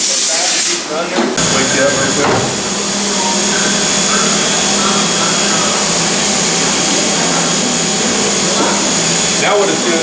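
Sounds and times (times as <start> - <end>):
high steady whine: 1.4 - 10.0
milling machine whirring: 1.4 - 10.0.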